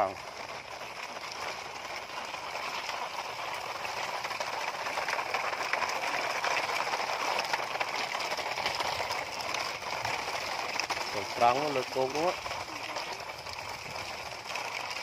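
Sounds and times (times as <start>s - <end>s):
toy trucks rattling over gravel: 0.0s - 15.0s.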